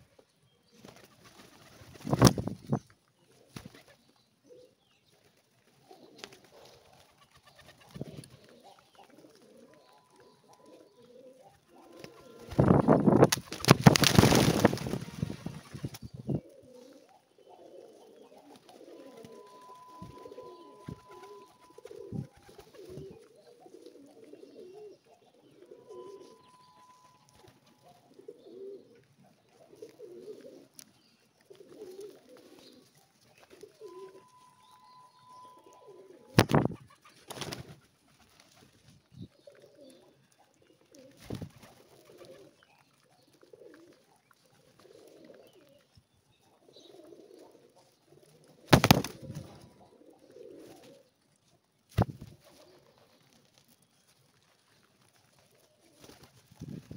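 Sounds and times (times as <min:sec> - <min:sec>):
pigeons cooing: 0:00.7 - 0:04.9, 0:05.6 - 0:51.2, 0:52.0 - 0:53.7, 0:55.1 - 0:56.9.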